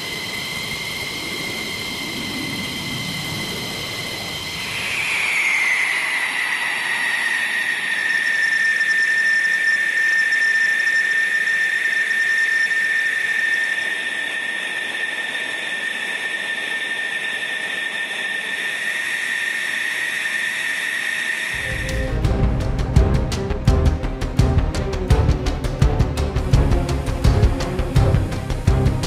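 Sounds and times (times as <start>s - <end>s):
jet engine idling whine: 0.0s - 29.0s.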